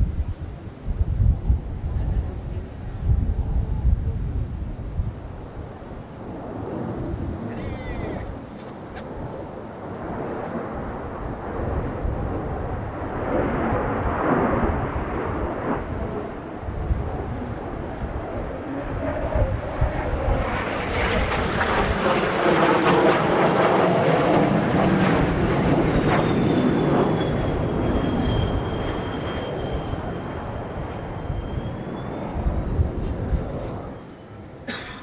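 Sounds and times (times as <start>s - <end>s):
wind buffeting microphone: 0.0s - 34.8s
jet passing overhead: 0.0s - 35.0s.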